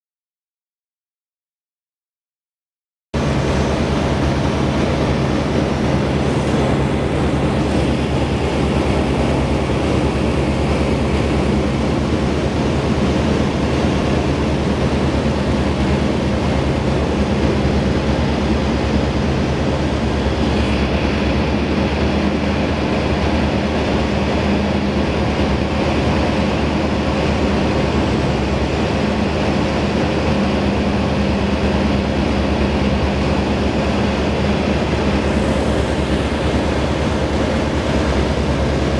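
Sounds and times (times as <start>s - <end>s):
aircraft engine and propeller: 3.2s - 38.9s
airflow noise: 3.2s - 38.9s.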